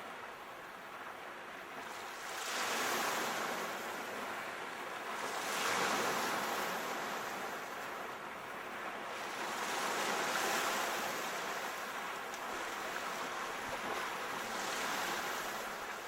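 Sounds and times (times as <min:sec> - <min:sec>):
ocean waves washing ashore: 0:00.0 - 0:16.0.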